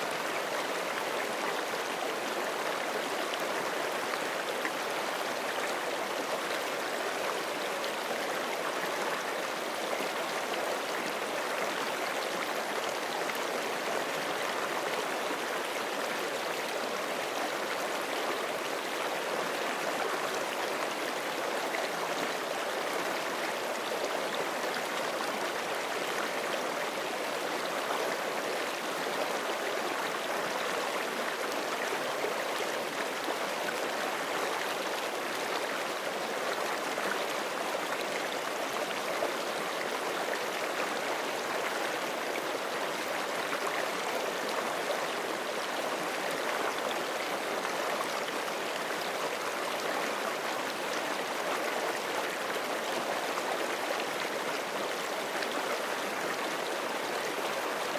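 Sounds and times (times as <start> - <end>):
creek flowing over rocks: 0.0 - 57.9.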